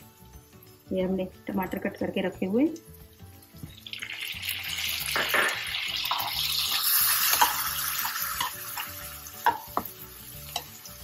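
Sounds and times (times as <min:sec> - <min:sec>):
tomatoes sizzling in oil: 0:00.0 - 0:11.0.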